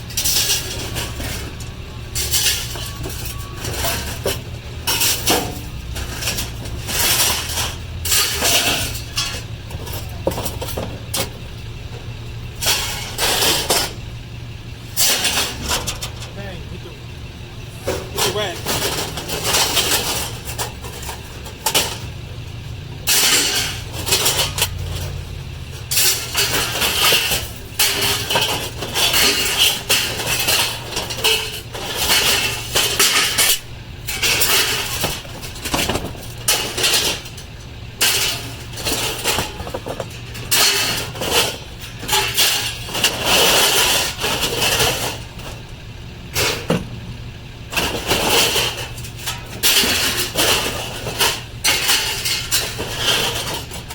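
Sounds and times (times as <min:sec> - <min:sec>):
metal clanking and rattling: 0:00.0 - 0:53.9
vehicle engine humming: 0:00.0 - 0:53.9.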